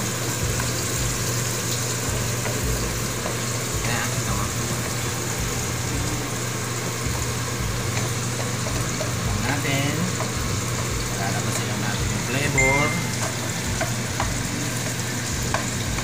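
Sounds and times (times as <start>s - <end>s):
wooden spatula stirring in wok: 0.0s - 12.4s, 13.0s - 16.0s
low steady hum: 0.0s - 16.0s
onion and garlic sizzling in oil: 0.0s - 16.0s.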